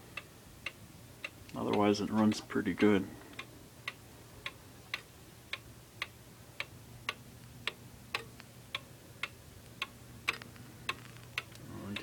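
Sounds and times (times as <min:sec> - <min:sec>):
wall clock ticking: 0:00.0 - 0:12.0.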